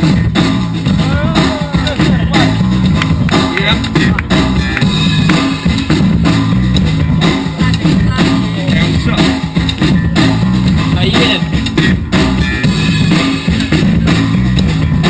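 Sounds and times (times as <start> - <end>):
loud rock music with drums: 0.0 - 15.0.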